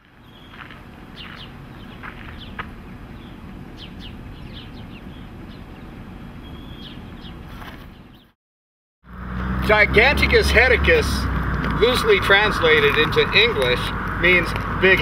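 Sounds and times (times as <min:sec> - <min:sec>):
birds chirping: 0:00.0 - 0:08.4, 0:09.1 - 0:15.0.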